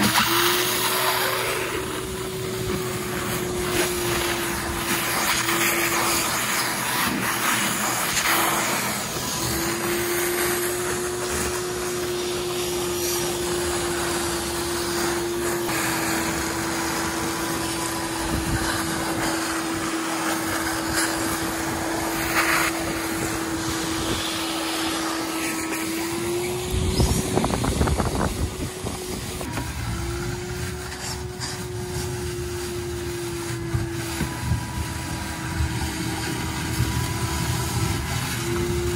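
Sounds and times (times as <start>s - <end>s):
wet dry vacuum running: 0.0s - 38.9s.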